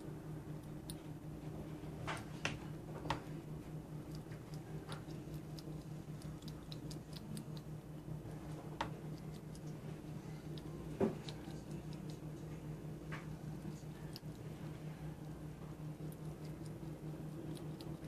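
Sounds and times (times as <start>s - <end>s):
steady low hum: 0.0s - 18.0s
squirrel nibbling clicks: 0.5s - 1.2s, 3.1s - 18.0s.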